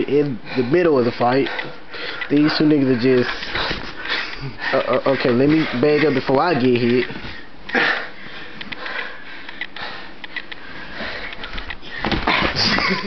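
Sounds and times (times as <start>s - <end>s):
heavy sniffing breaths: 0.3s - 12.2s.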